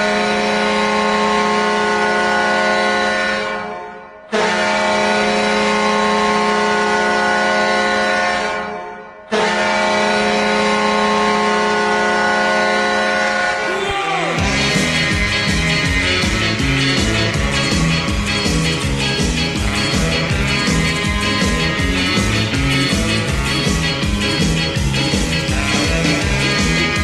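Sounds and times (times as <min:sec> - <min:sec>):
deep air horn blasts: 0:00.0 - 0:27.0.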